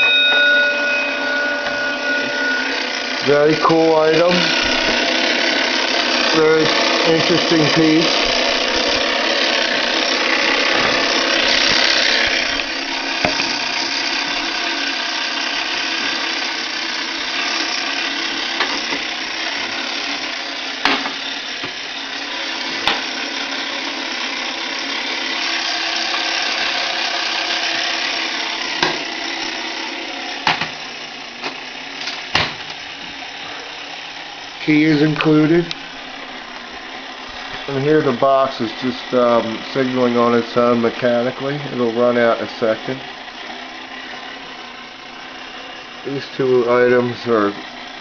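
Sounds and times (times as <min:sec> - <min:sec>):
clockwork mechanism whirring: 0:00.0 - 0:48.0.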